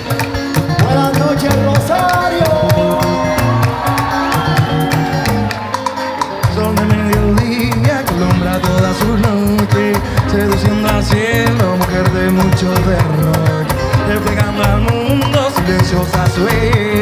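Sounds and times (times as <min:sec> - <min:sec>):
electric guitar: 0:00.0 - 0:17.0
hand percussion rhythm: 0:00.0 - 0:17.0.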